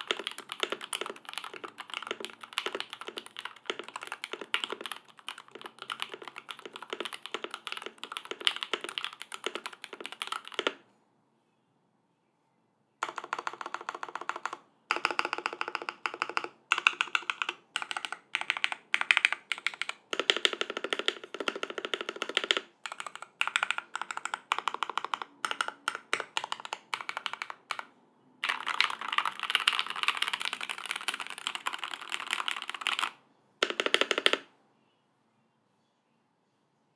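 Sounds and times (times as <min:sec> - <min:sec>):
mechanical keyboard typing: 0:00.0 - 0:10.8, 0:13.0 - 0:34.5.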